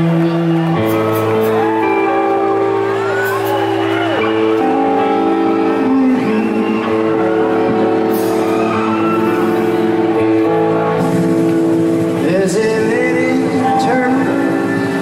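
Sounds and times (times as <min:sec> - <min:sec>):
background song with sustained notes: 0:00.0 - 0:15.0.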